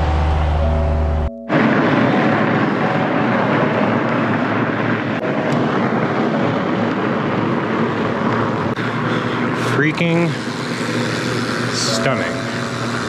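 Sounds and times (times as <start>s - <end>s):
low engine hum: 0.0s - 13.0s
studded tyres rolling on snow: 0.0s - 13.0s.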